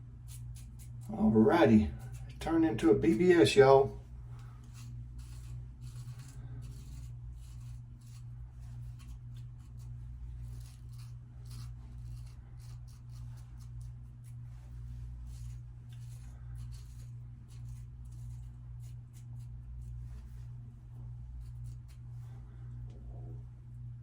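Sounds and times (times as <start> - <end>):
steady low hum: 0.0 - 24.0
rubbing strokes on face: 0.2 - 22.6.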